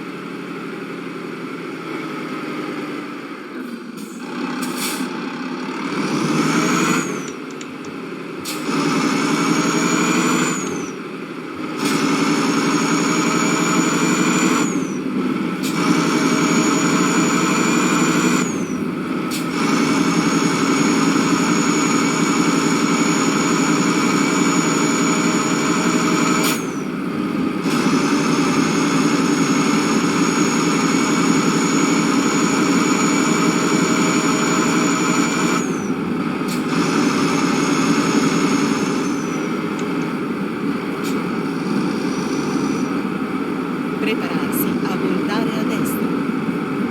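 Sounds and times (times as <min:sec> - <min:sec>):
vehicle engine whining: 0:00.0 - 0:46.9.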